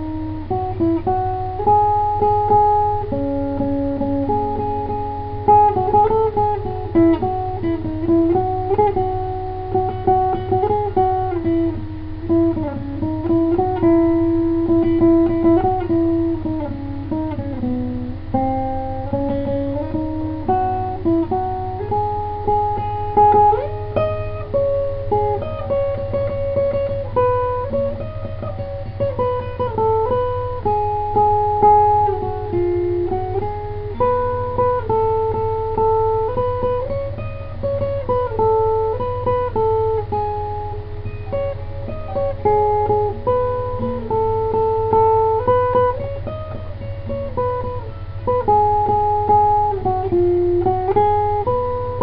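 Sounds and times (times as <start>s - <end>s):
acoustic guitar melody: 0.0s - 52.0s
steady low hum: 0.0s - 52.0s.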